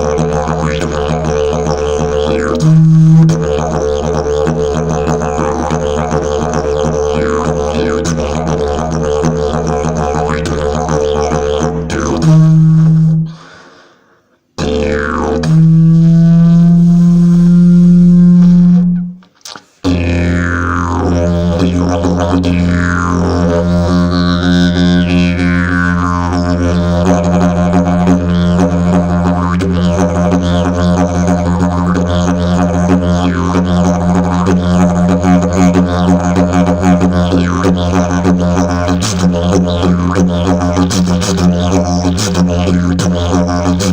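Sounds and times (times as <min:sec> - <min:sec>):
didgeridoo: 0:00.0 - 0:13.4, 0:14.6 - 0:43.9.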